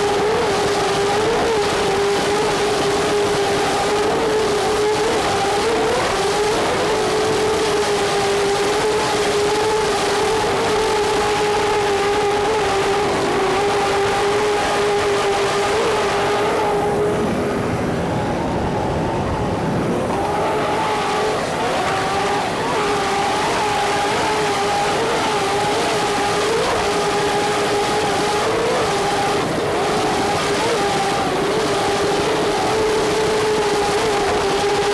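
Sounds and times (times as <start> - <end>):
powerboat engines droning: 0.0 - 34.9.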